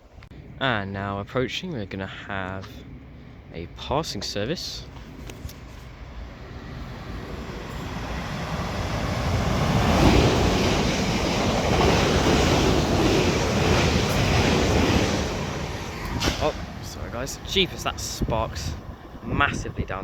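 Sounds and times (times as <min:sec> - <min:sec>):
electric train passing at speed: 0:02.3 - 0:20.0
wheel and rail noise: 0:02.4 - 0:20.0.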